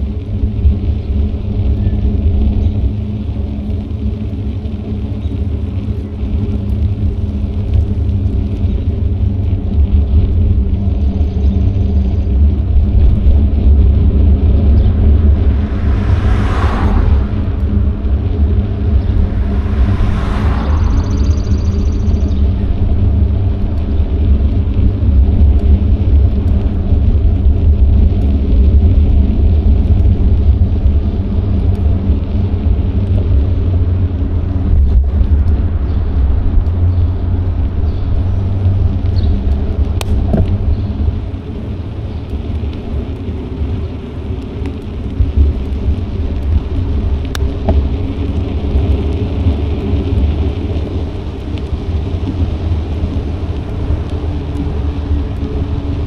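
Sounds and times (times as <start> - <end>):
road noise: 0.0 - 56.0
wind rumbling on microphone: 0.0 - 56.0.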